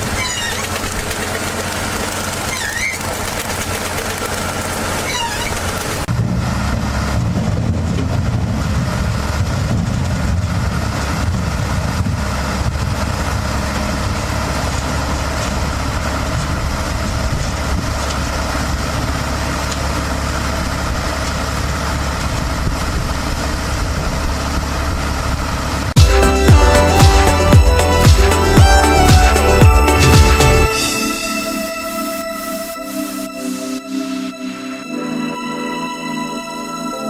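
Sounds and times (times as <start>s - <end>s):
heavy engine droning: 0.0s - 35.2s.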